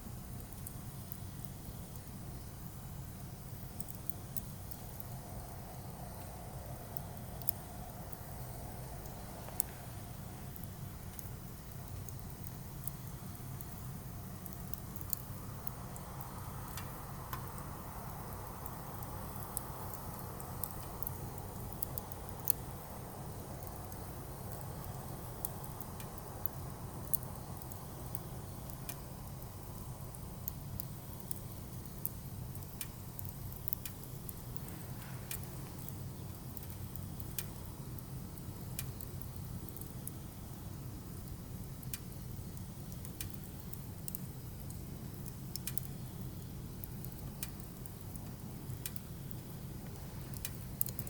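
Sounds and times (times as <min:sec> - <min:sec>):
firewood crackling and popping: 0:00.0 - 0:51.0
low fire noise: 0:00.0 - 0:51.0.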